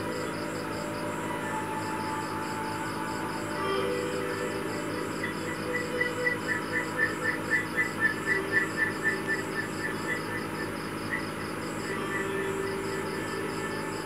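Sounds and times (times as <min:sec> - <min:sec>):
faint steady hum: 0:00.0 - 0:14.0
rhythmic high chirping: 0:00.0 - 0:14.0.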